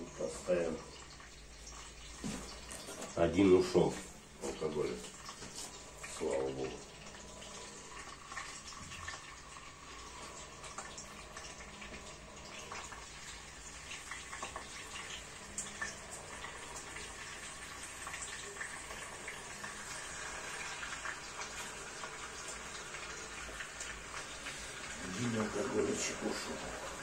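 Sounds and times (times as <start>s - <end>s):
meat and onion sizzling in pan: 0.0s - 27.0s.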